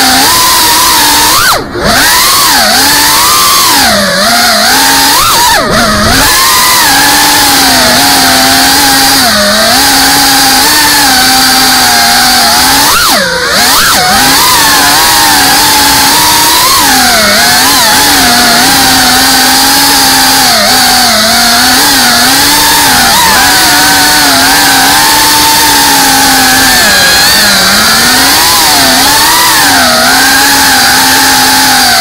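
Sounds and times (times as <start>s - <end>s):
drone motors and propellers whining: 0.0s - 32.0s.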